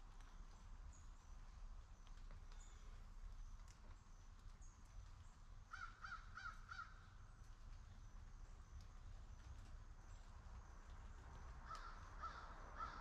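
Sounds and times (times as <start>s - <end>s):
faint low outdoor rumble: 0.0s - 13.0s.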